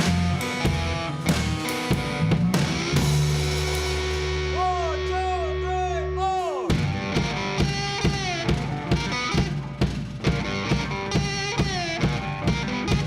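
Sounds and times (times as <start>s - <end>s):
slide guitar: 0.0s - 13.0s
steady drum beat: 0.0s - 13.0s.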